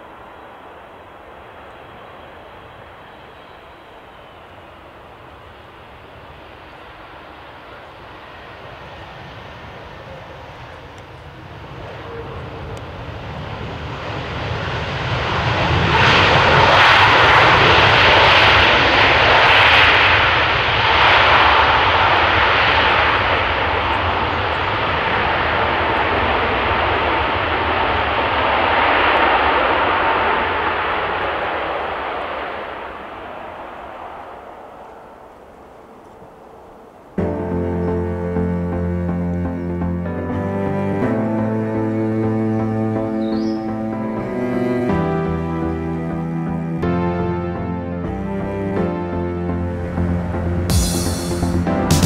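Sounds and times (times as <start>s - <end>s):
jet engines roaring: 0.0s - 52.0s
steady jet engine whine: 0.0s - 52.0s.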